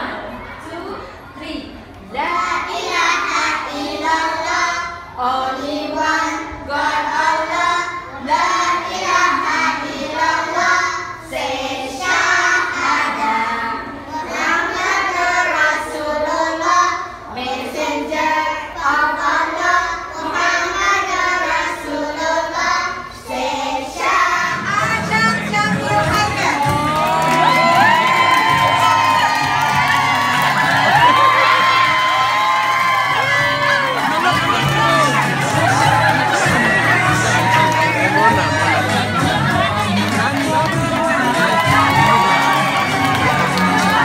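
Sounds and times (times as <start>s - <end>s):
young children singing: 2.1s - 25.2s, 29.4s - 44.0s.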